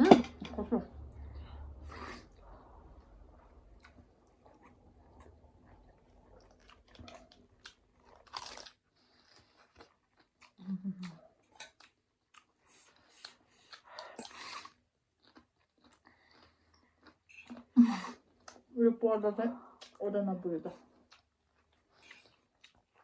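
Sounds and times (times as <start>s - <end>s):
chewing and crunching noodles: 1.9s - 18.7s, 20.7s - 23.0s.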